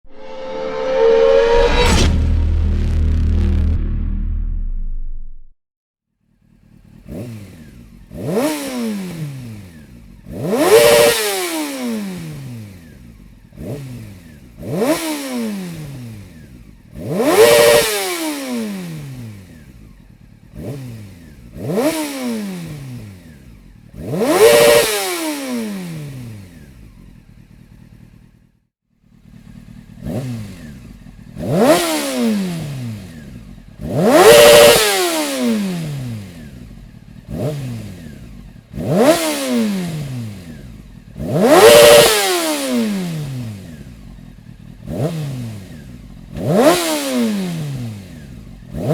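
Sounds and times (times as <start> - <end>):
motorcycle engine revving: 0.0 - 4.8, 6.3 - 48.9.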